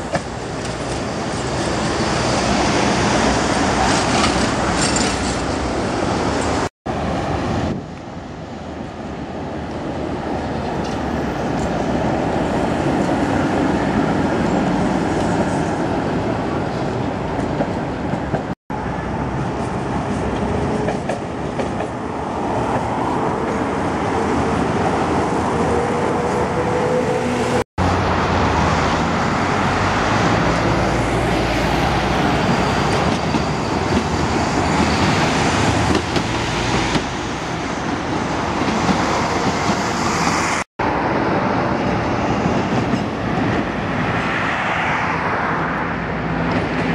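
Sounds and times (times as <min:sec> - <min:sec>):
passing road traffic: 0:00.0 - 0:46.9
tram wheels rumbling on rails: 0:00.0 - 0:46.9.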